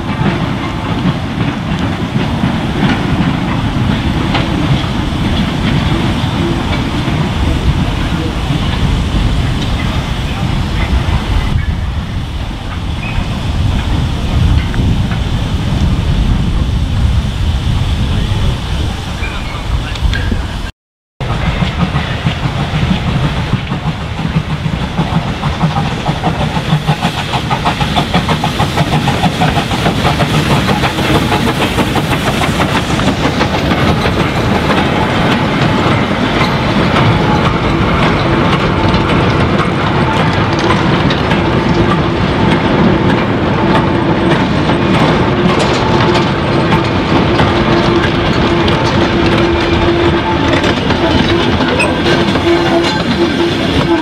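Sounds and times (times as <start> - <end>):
wagon wheels clanking over rail joints: 0.0 - 11.9, 21.2 - 54.0.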